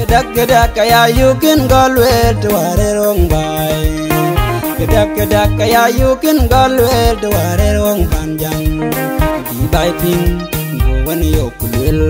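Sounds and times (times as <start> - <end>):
pop song with plucked guitar: 0.0 - 12.0.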